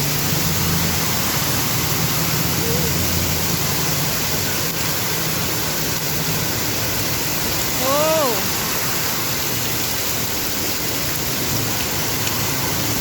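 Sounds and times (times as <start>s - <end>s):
rain and running water: 0.0s - 13.0s.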